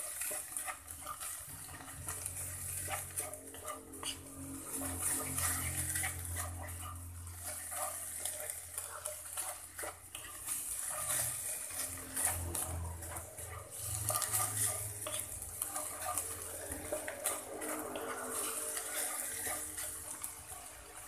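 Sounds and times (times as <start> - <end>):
meat sizzling in oil: 0.0 - 21.0
spatula scraping a frying pan: 0.0 - 21.0.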